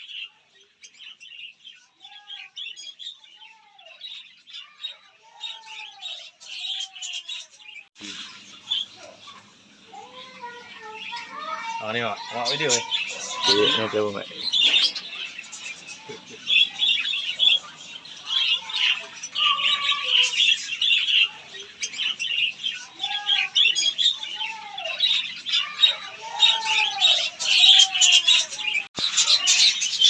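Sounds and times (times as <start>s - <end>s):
caged birds chattering: 0.0s - 30.0s.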